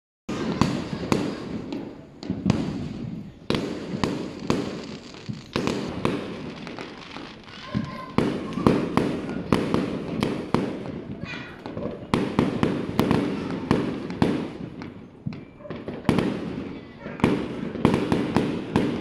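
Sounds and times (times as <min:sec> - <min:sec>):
fireworks banging: 0:00.3 - 0:19.0.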